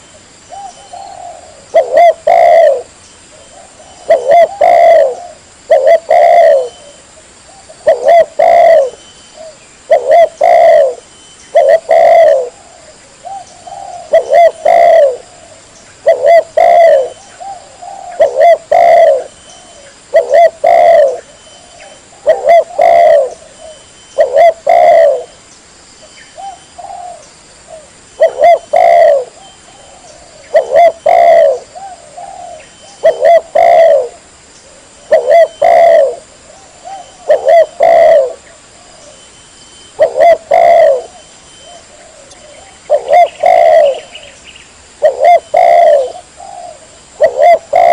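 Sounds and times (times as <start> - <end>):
dove cooing: 0.0 - 25.4, 26.3 - 39.3, 39.9 - 44.4, 45.0 - 47.9.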